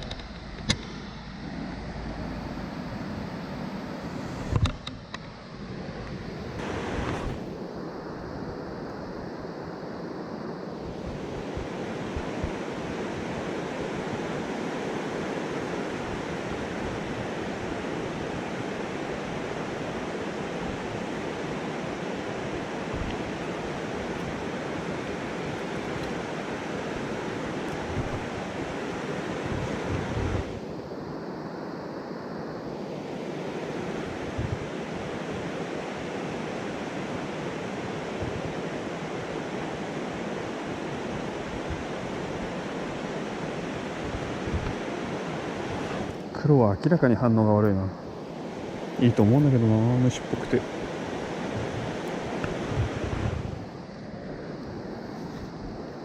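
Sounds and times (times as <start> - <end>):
wind rumble on microphone: 0.0 - 56.0
rushing stream water: 5.6 - 8.2, 8.8 - 30.7, 31.3 - 56.0.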